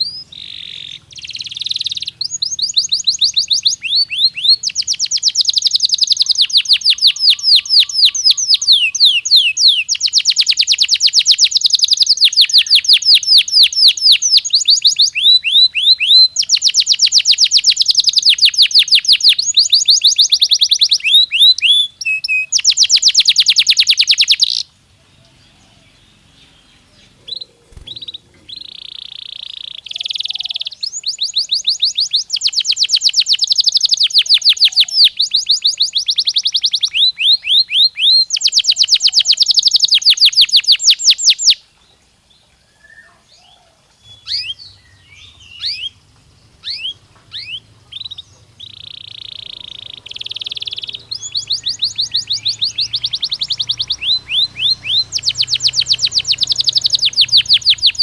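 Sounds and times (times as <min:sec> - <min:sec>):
canary chirps: 0:00.0 - 0:42.0, 0:42.7 - 0:58.0
canary singing trills: 0:00.0 - 0:58.0.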